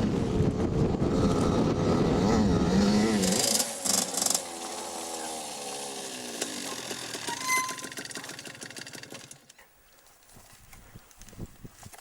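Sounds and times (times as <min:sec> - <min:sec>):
two-stroke motocross bike engine: 0:00.0 - 0:09.6.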